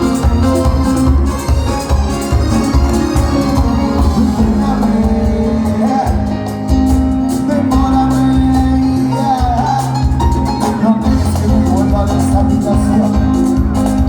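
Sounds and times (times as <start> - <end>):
live band with singing: 0.0 - 14.0.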